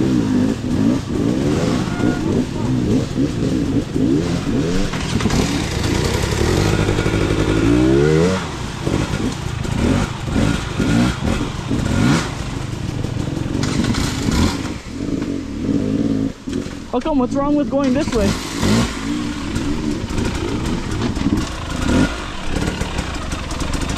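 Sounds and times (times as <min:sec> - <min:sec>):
engine revving hard: 0:00.0 - 0:12.6, 0:13.6 - 0:16.7, 0:17.9 - 0:23.9.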